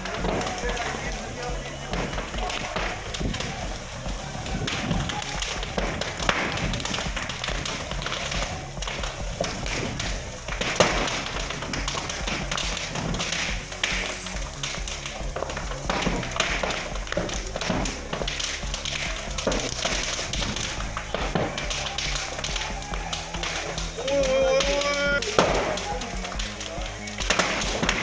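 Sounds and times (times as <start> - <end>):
faint background music: 0.0 - 28.0
fire crackling with sharp pops: 0.0 - 28.0.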